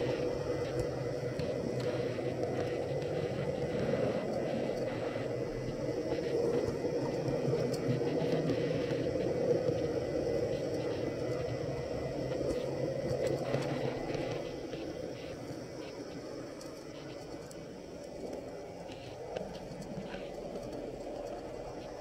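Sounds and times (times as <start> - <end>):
faint clicks: 0.0 - 22.0.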